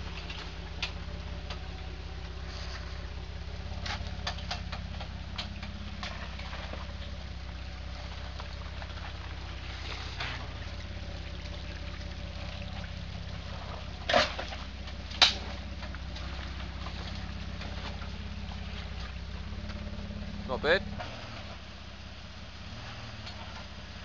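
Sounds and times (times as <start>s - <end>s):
engine running low: 0.0s - 24.0s.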